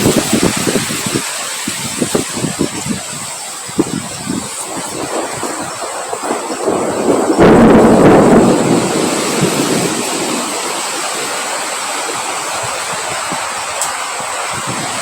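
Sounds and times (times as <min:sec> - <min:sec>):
rain hiss: 0:00.0 - 0:15.0
wind buffeting microphone: 0:00.0 - 0:15.0.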